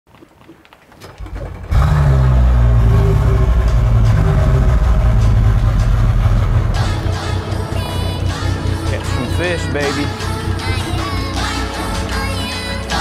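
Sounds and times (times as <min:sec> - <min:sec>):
outboard motors starting and running: 0:01.0 - 0:13.0.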